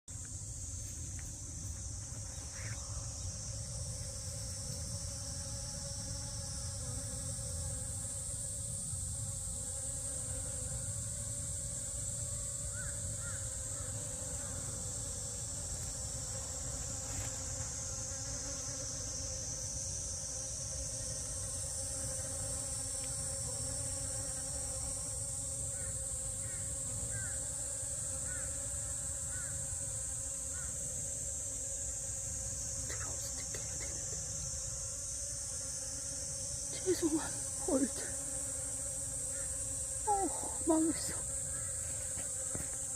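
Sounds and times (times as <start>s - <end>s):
high-pitched insect drone: 0.2s - 42.9s
honey bees buzzing: 0.2s - 42.9s.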